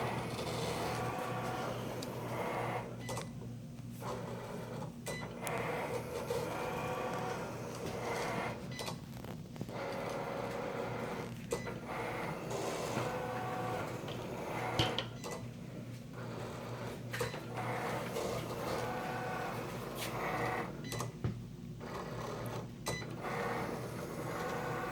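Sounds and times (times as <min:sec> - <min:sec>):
machine grinding: 0:00.0 - 0:03.0, 0:04.0 - 0:08.7, 0:09.6 - 0:15.0, 0:16.1 - 0:20.8, 0:21.8 - 0:24.9.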